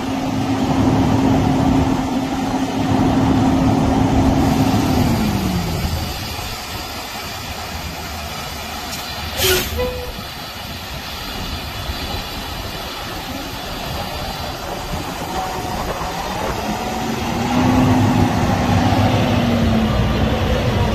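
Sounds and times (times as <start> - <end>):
engine hum: 0.0 - 20.9
vehicle rumble: 0.0 - 20.9.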